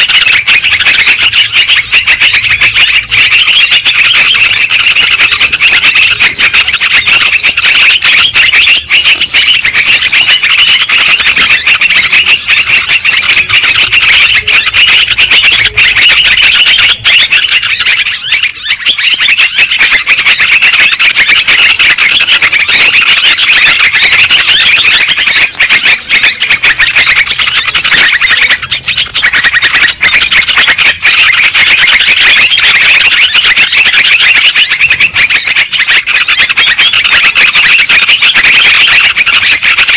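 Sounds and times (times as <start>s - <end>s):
bulbul calls rapid chattering: 0.0s - 39.9s.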